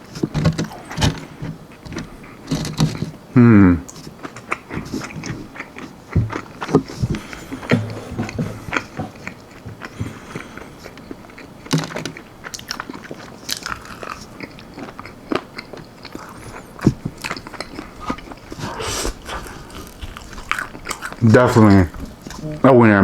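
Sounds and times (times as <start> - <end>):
chewing crispy chicken wings: 0.0 - 22.7.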